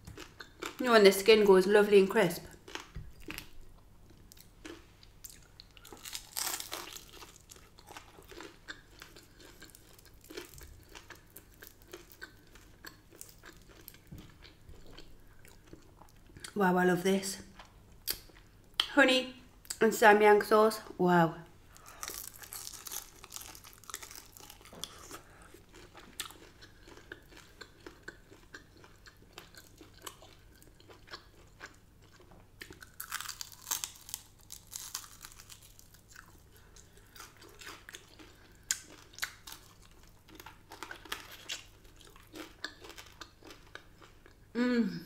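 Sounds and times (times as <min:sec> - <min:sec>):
person crunching and chewing food: 0:00.0 - 0:00.9, 0:02.5 - 0:16.6, 0:21.7 - 0:44.5.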